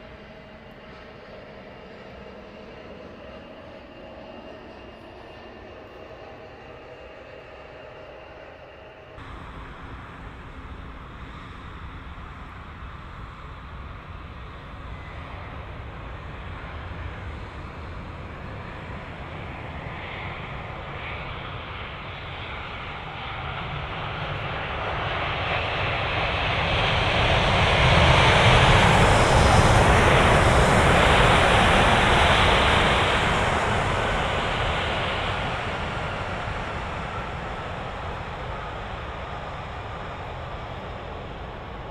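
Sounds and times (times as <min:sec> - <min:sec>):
airliner engine roar: 0:00.0 - 0:41.9.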